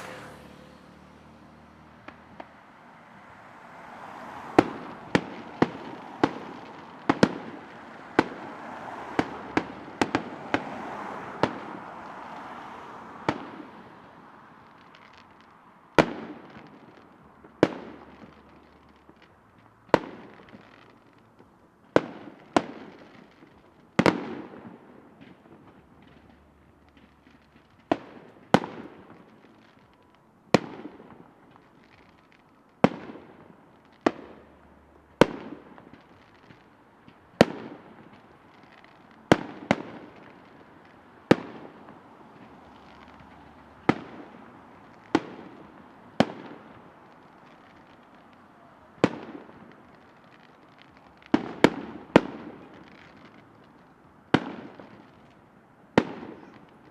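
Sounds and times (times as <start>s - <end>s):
fireworks bursting with echo: 0.0s - 3.2s, 4.4s - 12.2s, 13.2s - 56.9s.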